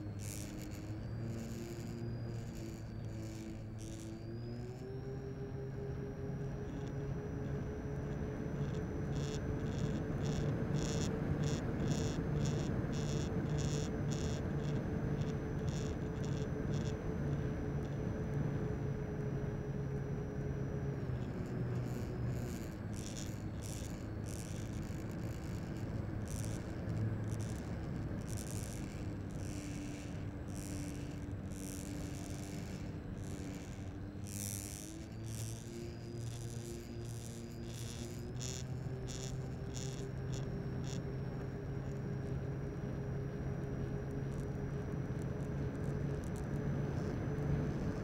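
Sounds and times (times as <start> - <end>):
model airplane electric motor: 0.0 - 48.0.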